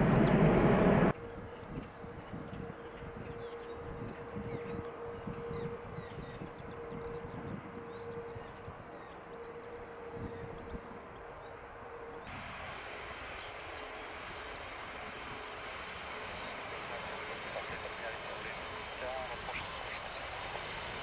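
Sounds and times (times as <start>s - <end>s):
jet engines whining: 0.0s - 1.2s, 3.7s - 21.0s.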